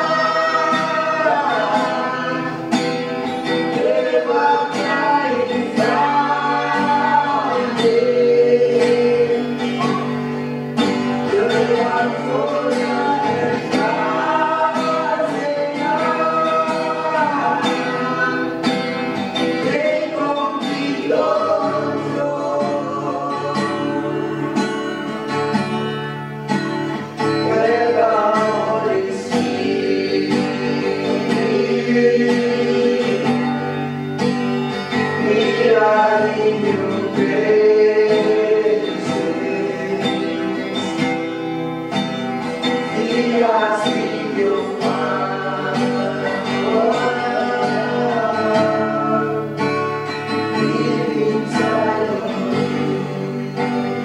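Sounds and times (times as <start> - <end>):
people singing a praise song: 0.0 - 54.0
strummed guitar: 0.0 - 54.0.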